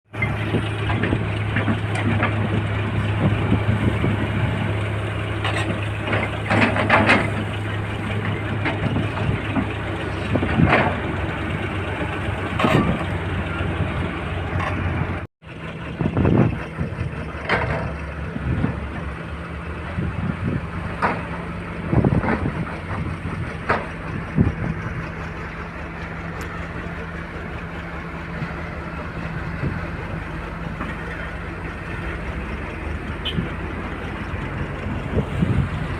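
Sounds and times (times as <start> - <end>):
diesel engine hum: 0.0 - 35.9
machinery clanks and knocks: 0.1 - 35.9.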